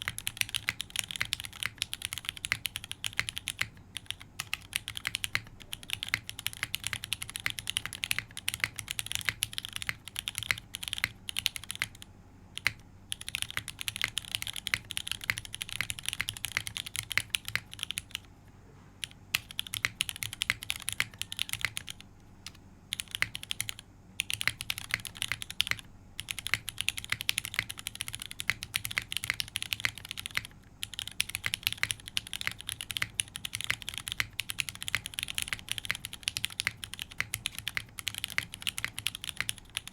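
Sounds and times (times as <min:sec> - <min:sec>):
fast mechanical keyboard typing: 0:00.0 - 0:18.3, 0:19.0 - 0:39.9.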